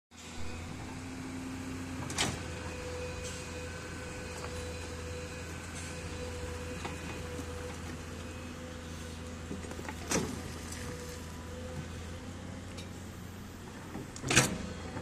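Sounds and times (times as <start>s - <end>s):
excavator engine running: 0.2s - 15.0s
hydraulic whine: 0.2s - 15.0s.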